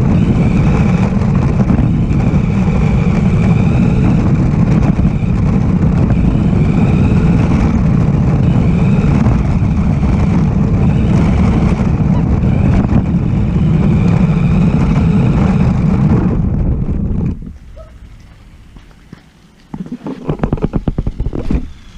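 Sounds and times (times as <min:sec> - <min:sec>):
radio-controlled car rumbling: 0:00.0 - 0:17.8, 0:19.7 - 0:21.9
motor whine: 0:00.0 - 0:18.9.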